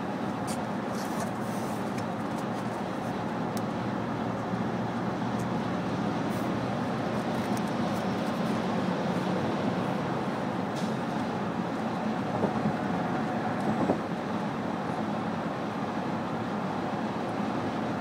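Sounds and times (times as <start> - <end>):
road and tyre noise in car: 0.0 - 18.0.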